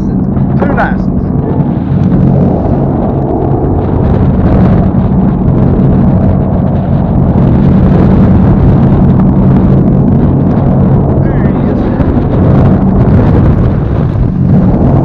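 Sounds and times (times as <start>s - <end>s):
boat engine running: 0.0s - 15.0s
wind noise on microphone: 0.0s - 15.0s.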